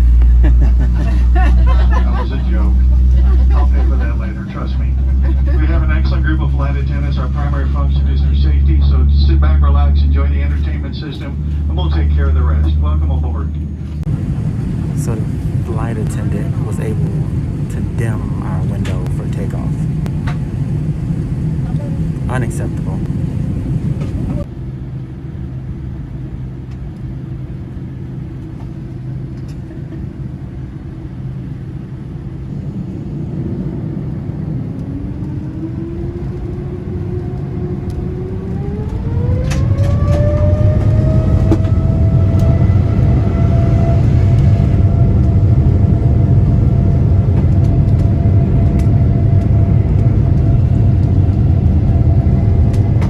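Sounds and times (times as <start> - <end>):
jet engine rumble in cabin: 0.0 - 53.0
jet engine whine spooling up: 0.0 - 53.0.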